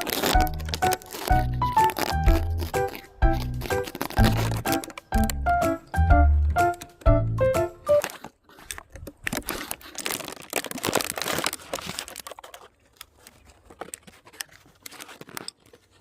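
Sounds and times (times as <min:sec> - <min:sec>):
crinkling and crackling: 0:00.0 - 0:05.6, 0:07.8 - 0:16.0.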